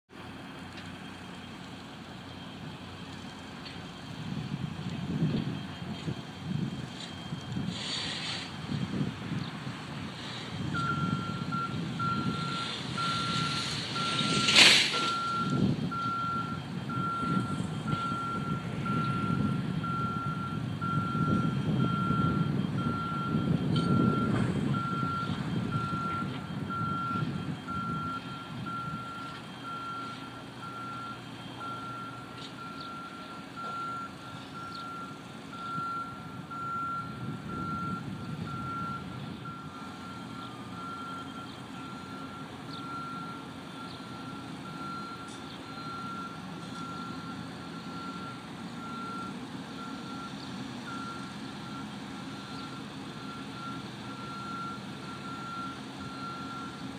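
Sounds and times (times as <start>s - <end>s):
heavy machinery engine rumble: 0.1s - 56.9s
backup alarm beeping: 10.6s - 56.8s.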